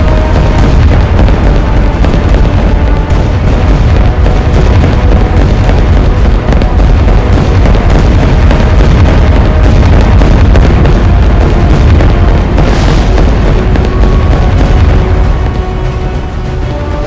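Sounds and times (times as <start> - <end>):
plane engines rumbling: 0.0 - 17.0.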